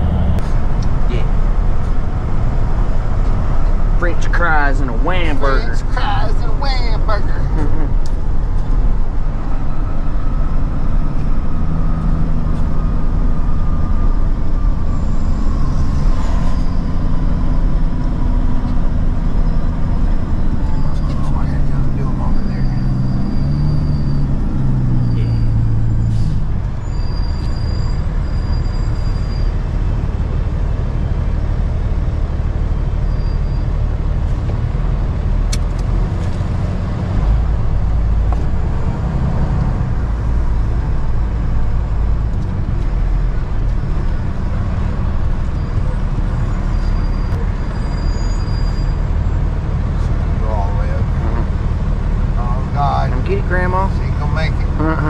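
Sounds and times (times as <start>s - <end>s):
road noise: 0.0s - 55.0s
truck engine rumble: 0.0s - 55.0s.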